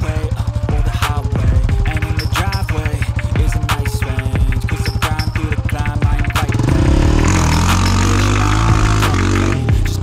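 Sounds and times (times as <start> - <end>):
electronic music with deep bass: 0.0 - 10.0
quad bike engine revving: 0.0 - 10.0.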